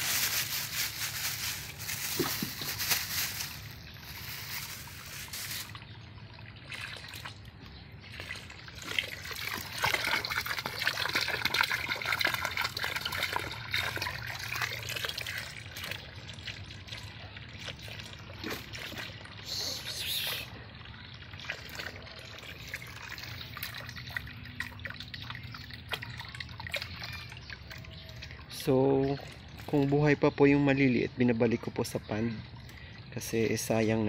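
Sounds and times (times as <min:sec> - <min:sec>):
water trickling and pouring: 0:00.0 - 0:31.0.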